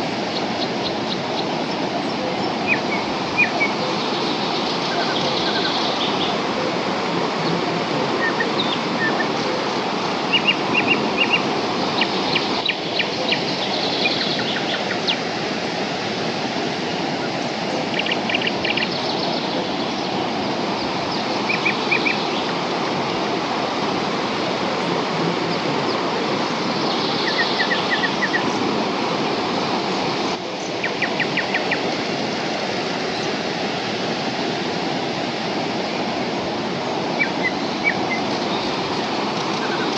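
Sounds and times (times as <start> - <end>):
birds chirping: 0.0 - 39.9
waterfall roar: 0.0 - 39.9.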